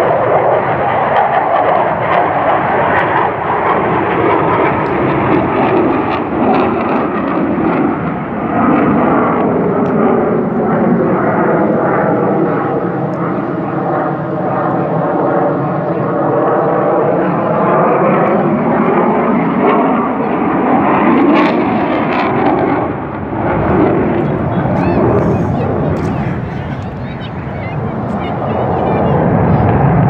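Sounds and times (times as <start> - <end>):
military aircraft flying over: 0.0 - 30.0.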